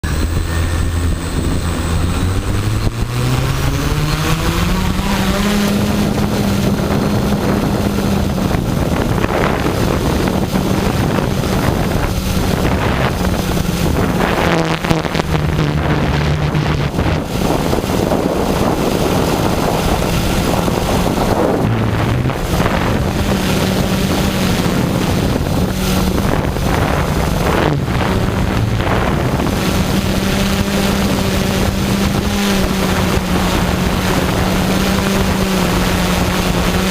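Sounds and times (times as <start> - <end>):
drone propellers humming: 0.0 - 36.9
wind buffeting microphone: 0.0 - 36.9.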